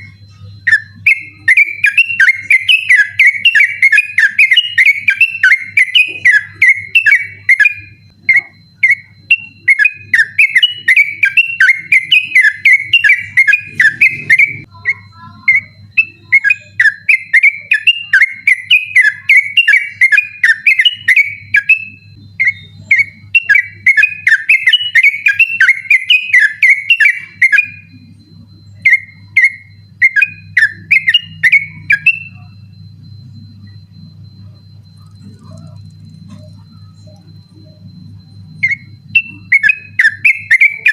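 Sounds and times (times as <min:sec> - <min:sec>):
bulbul singing warbling notes: 0:00.0 - 0:40.9
steady low hum: 0:00.0 - 0:40.9.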